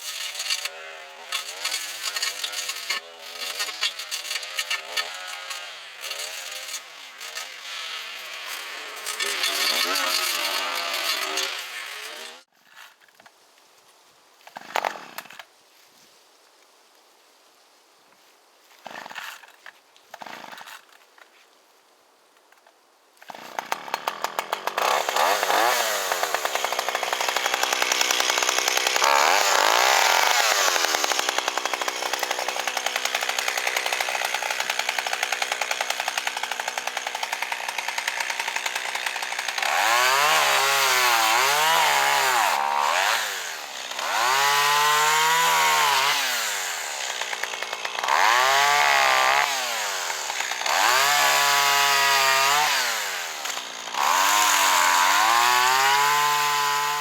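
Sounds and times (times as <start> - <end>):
chainsaw revving: 0.1 - 12.5, 23.3 - 57.0.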